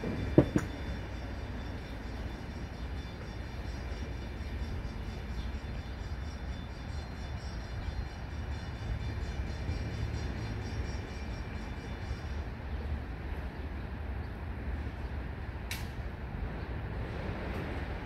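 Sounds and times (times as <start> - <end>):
distant locomotive diesel rumble: 0.0 - 18.0.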